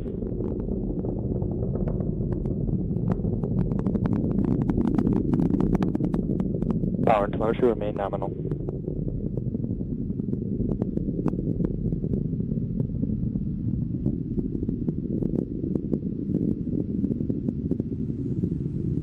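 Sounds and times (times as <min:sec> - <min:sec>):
rocket engines rumbling: 0:00.0 - 0:19.0
sharp crackles: 0:00.0 - 0:19.0.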